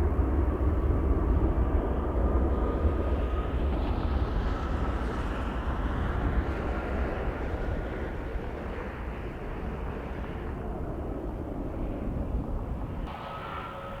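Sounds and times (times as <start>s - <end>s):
jet engine whine and rumble: 0.0s - 14.0s
wind buffeting microphone: 0.0s - 14.0s.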